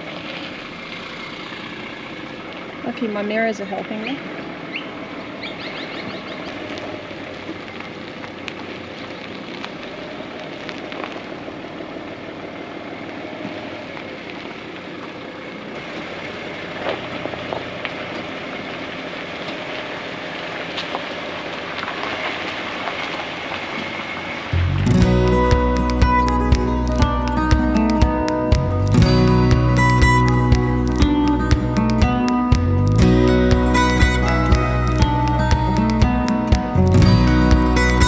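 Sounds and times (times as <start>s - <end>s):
tyres crunching over gravel: 0.0s - 38.0s.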